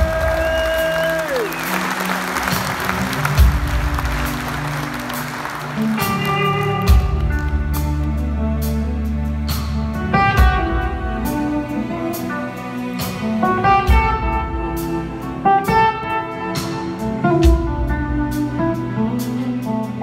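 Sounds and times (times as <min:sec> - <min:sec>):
blues-rock band playing: 0:00.0 - 0:20.0.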